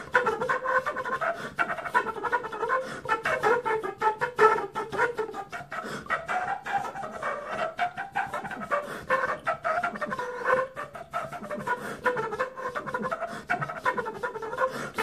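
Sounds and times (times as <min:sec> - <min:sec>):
flute melody: 0:00.0 - 0:15.0.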